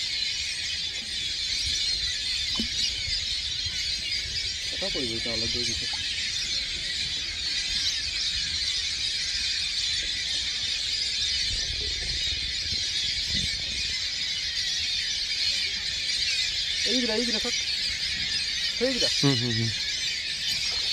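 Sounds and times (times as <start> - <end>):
flock of birds calling: 0.0 - 20.9.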